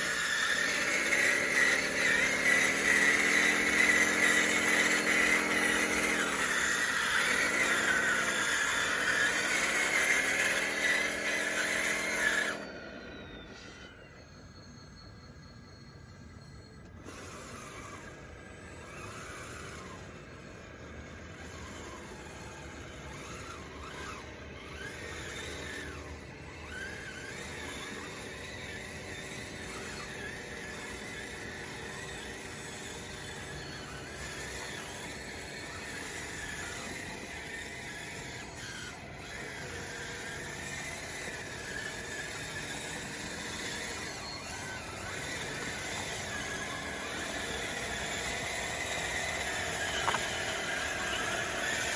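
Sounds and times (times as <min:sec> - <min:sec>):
electric motors and gears whining: 0:00.0 - 0:51.9.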